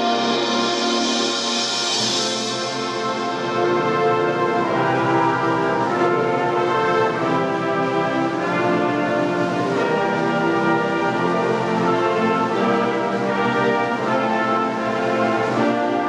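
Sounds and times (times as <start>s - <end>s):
wind ensemble brass chords: 0.0s - 16.0s.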